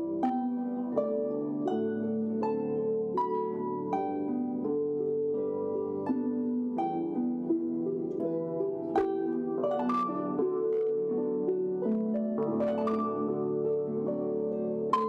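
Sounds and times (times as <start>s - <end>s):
harp duo plucked melody: 0.0s - 15.0s.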